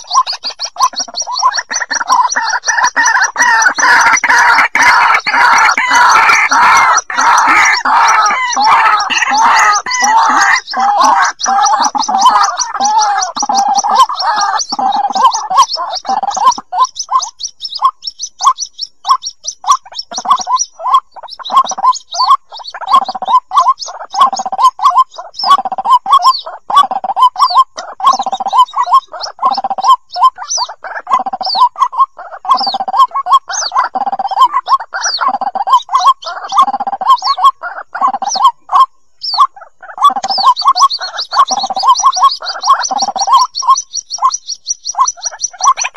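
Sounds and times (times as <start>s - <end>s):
bird chicks calling: 0.0s - 45.9s
thin high peeping: 0.0s - 45.9s.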